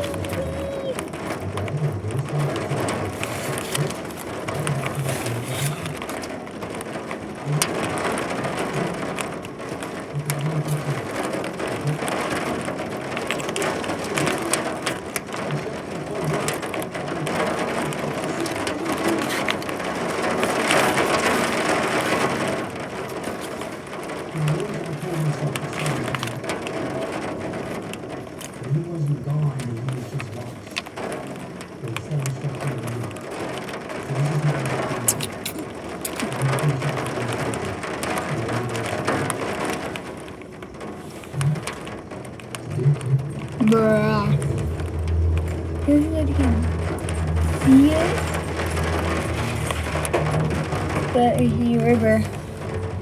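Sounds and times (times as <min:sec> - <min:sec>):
heavy rain on hard surface: 0:00.0 - 0:53.0.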